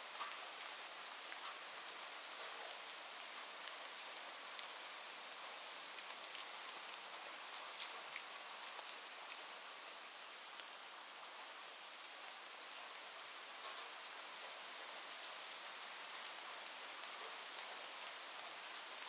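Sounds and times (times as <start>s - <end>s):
steady rain pattering: 0.0s - 19.0s.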